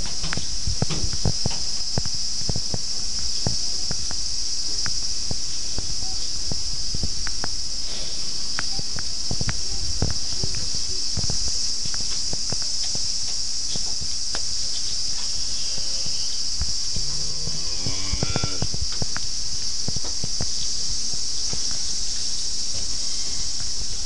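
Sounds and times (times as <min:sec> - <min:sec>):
high-pitched hiss: 0:00.0 - 0:24.0.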